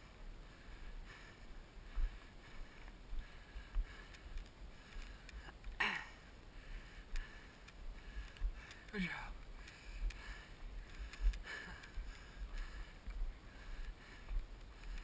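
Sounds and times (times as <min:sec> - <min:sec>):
heavy labored breathing: 0:00.0 - 0:15.0.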